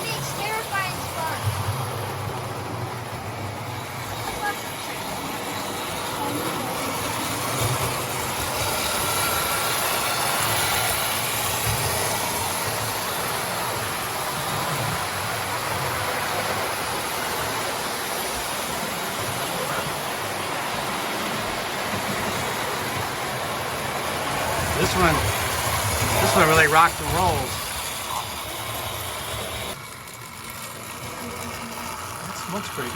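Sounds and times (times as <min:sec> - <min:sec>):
toy train on metal rails: 0:00.0 - 0:32.9.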